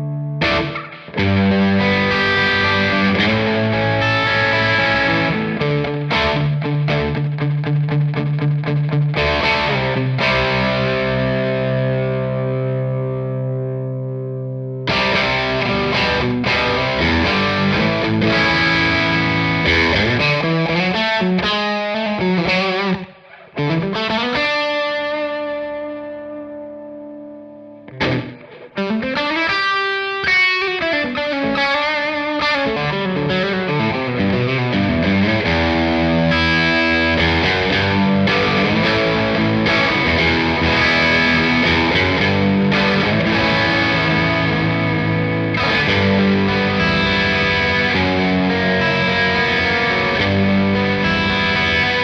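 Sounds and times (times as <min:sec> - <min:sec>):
distorted electric guitar chords: 0:00.0 - 0:52.0.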